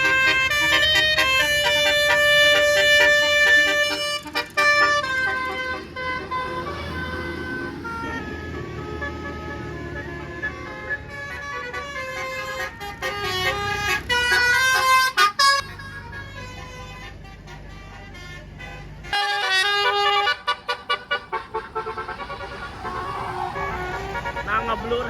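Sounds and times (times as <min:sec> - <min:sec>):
bus engine running: 0:00.0 - 0:25.0
bus multi-tone horn tunes: 0:00.0 - 0:25.0.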